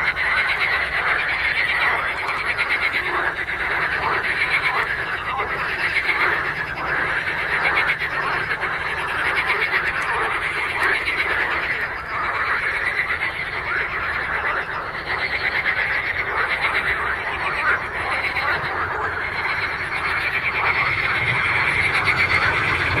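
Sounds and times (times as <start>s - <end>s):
frogs chorus calling: 0.0s - 23.0s.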